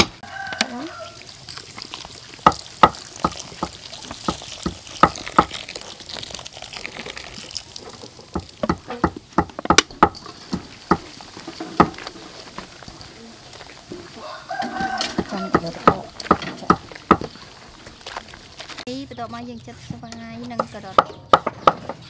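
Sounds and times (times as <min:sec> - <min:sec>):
soda water fizzing: 0:00.0 - 0:19.0
hands stirring in a steel bowl: 0:00.1 - 0:21.0.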